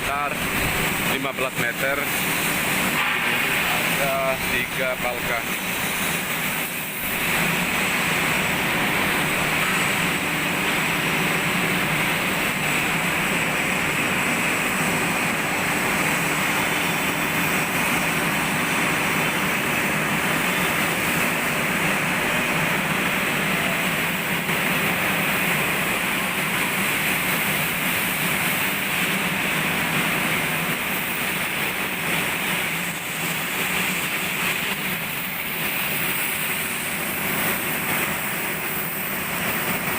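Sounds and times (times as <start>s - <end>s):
workshop machinery din: 0.0s - 39.9s.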